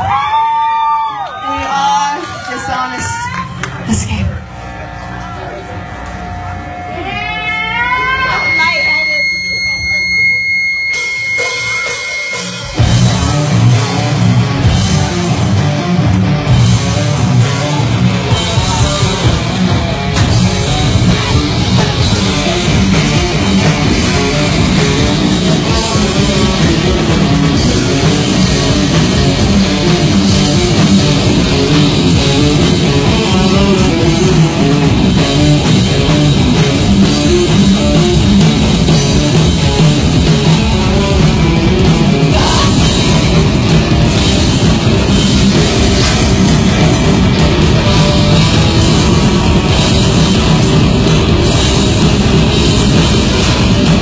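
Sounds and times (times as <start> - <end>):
bass guitar: 0.0 - 54.0
electric guitars: 0.0 - 54.0
drum kit: 8.1 - 54.0.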